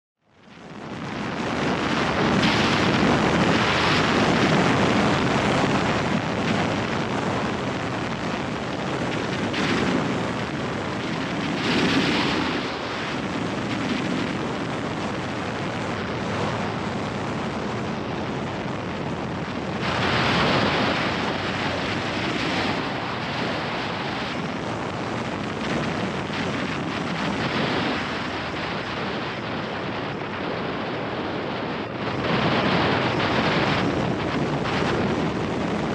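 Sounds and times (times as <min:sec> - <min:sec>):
wind rushing over microphone: 0:00.2 - 0:35.9.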